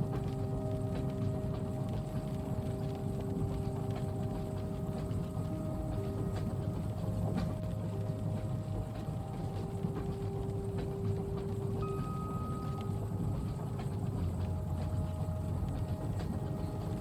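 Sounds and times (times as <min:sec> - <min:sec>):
faint steady tones: 0:00.0 - 0:17.0
light clacks and ticks: 0:00.0 - 0:17.0
rain on a window: 0:00.0 - 0:17.0
train running rumble: 0:00.0 - 0:17.0.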